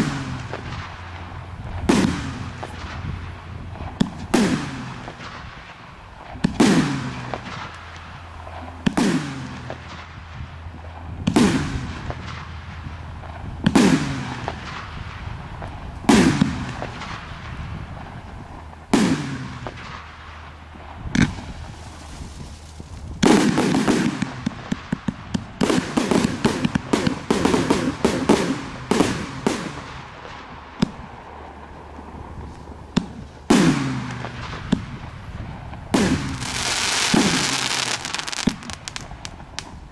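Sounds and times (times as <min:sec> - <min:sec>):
firework bangs: 0:00.0 - 0:39.9
rapid firework crackling: 0:00.0 - 0:39.9.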